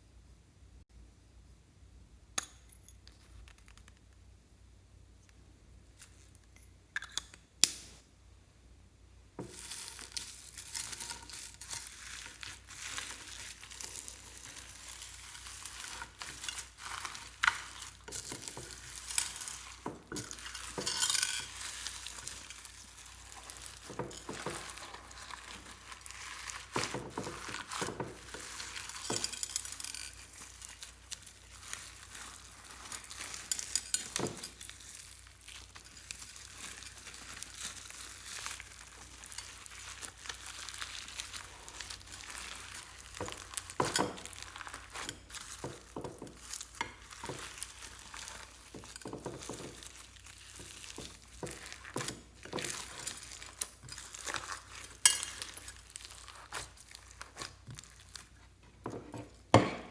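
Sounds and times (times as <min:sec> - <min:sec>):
slime crackling and popping: 0:09.4 - 0:58.4.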